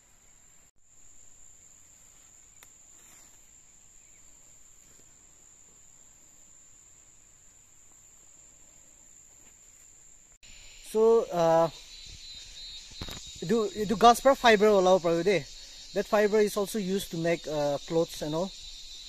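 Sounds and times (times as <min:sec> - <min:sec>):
crickets singing: 0:00.0 - 0:19.0.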